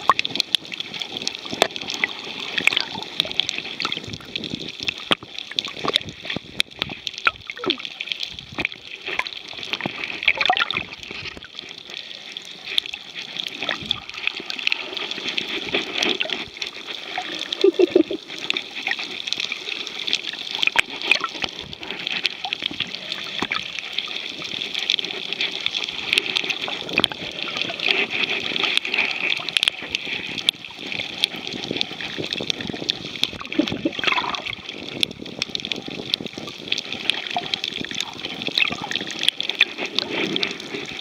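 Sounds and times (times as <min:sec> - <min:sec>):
underwater clicks and crackles: 0:00.0 - 0:41.0.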